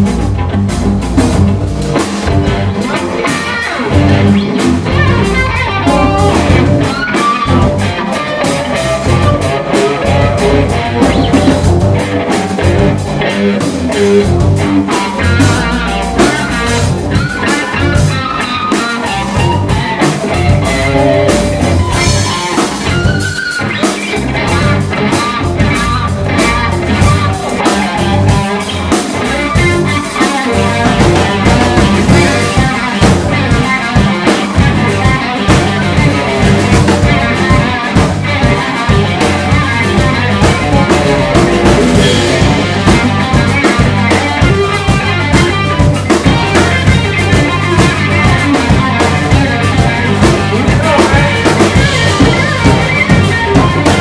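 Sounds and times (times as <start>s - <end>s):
drum kit steady beat: 0.0s - 54.0s
electric guitar bending notes: 0.0s - 54.0s.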